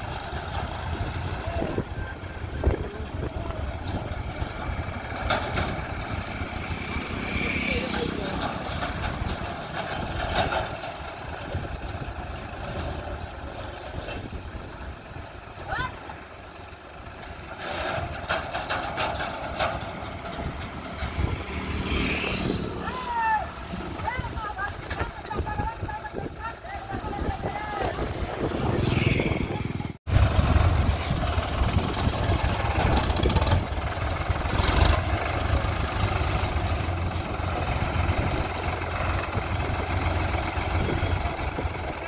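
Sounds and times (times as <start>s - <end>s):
tractor diesel engine rumbling: 0.0s - 42.0s.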